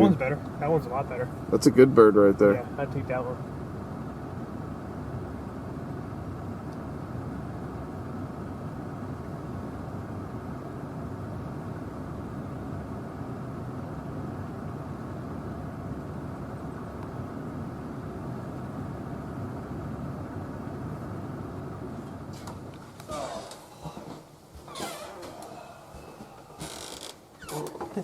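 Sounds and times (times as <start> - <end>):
steady low rumble: 0.0 - 27.4.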